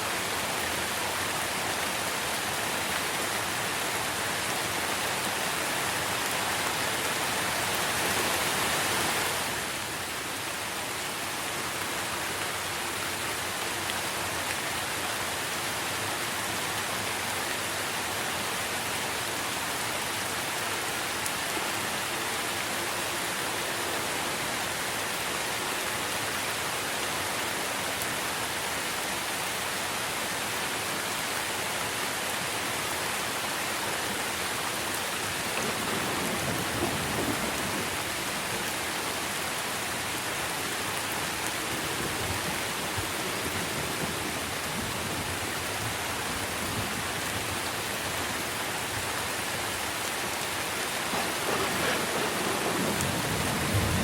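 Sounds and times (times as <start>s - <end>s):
rain falling on foliage: 0.0s - 54.0s.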